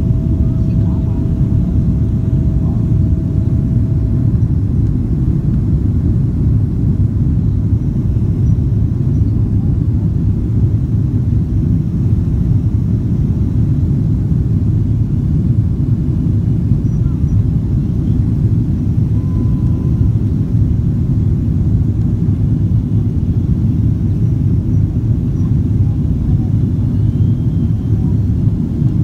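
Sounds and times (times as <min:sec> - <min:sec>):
jet engines rumbling in cabin: 0:00.0 - 0:29.0.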